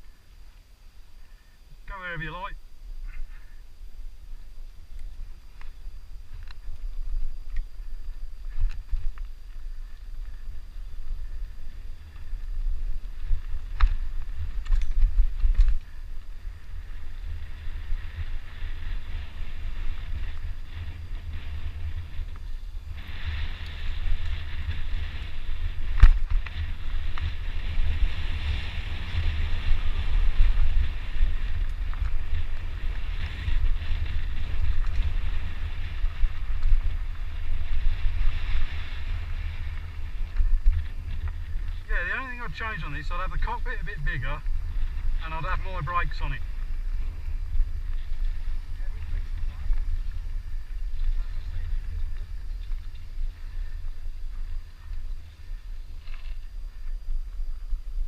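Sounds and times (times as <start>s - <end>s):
tyres hissing on trail: 0.0s - 58.0s
wind buffeting microphone: 1.0s - 58.0s.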